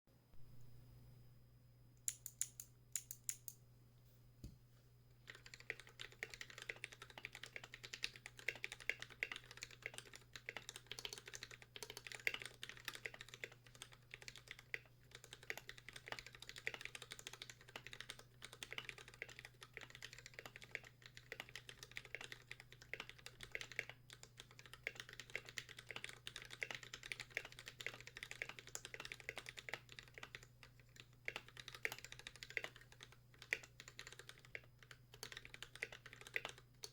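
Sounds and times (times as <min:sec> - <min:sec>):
typing on mechanical keyboard: 0:05.3 - 0:36.9.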